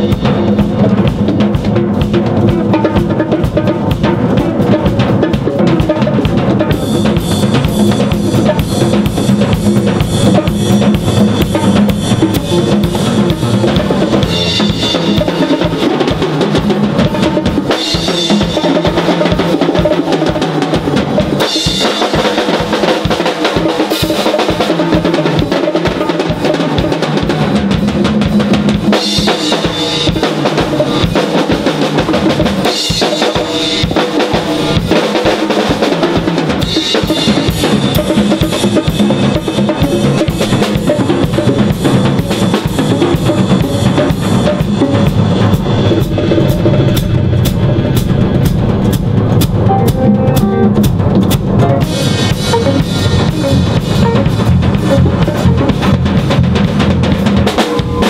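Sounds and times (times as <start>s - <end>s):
congas and bongos: 0.0s - 58.0s
drum kit playing: 0.0s - 58.0s.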